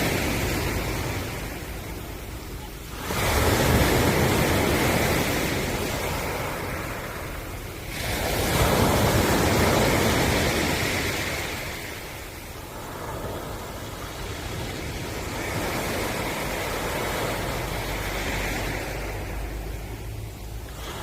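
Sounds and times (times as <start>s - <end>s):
ocean waves breaking on shore: 0.0s - 21.0s.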